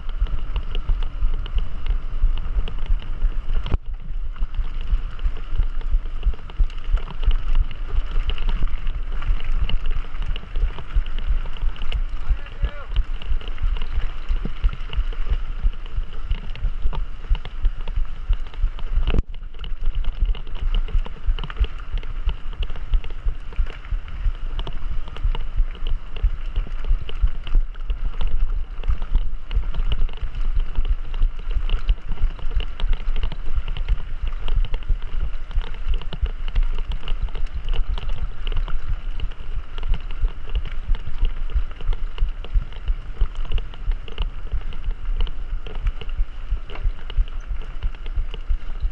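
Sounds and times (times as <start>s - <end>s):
bike rattling: 0.0s - 48.9s
low rumble: 0.0s - 48.9s
wind buffeting microphone: 0.0s - 48.9s.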